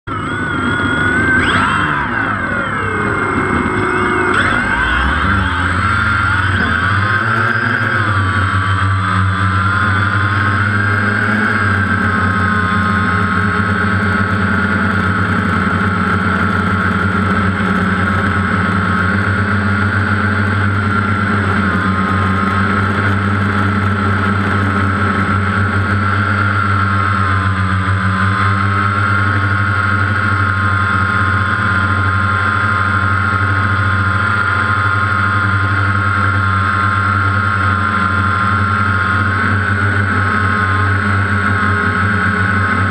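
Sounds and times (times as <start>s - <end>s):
drone propellers whining: 0.0s - 42.9s.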